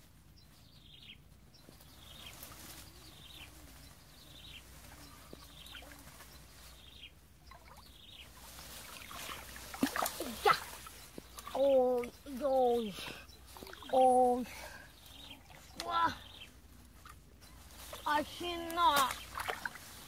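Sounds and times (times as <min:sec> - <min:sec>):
bird calling faintly: 0:00.5 - 0:19.8.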